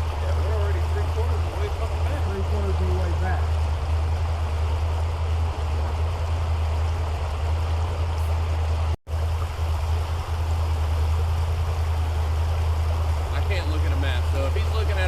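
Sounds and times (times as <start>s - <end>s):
creek water flowing: 0.0s - 15.0s
steady low hum: 0.0s - 15.0s.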